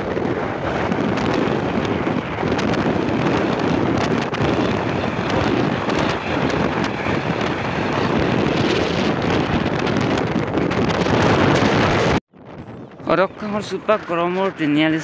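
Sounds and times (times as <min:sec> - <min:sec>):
wind roaring over microphone: 0:00.0 - 0:15.0.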